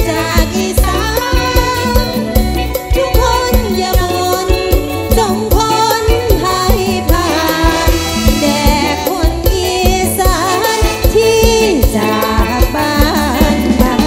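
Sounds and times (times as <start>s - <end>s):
live band music: 0.0s - 14.0s
person singing: 0.0s - 14.0s
steady drum beat: 0.0s - 14.0s.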